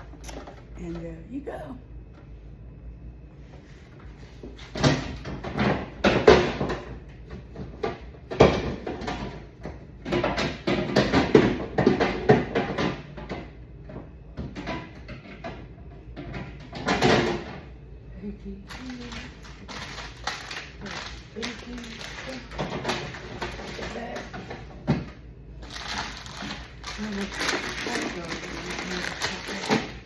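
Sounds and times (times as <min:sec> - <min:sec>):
items clattering and knocking: 0:00.0 - 0:01.0, 0:03.9 - 0:17.7, 0:18.7 - 0:30.0.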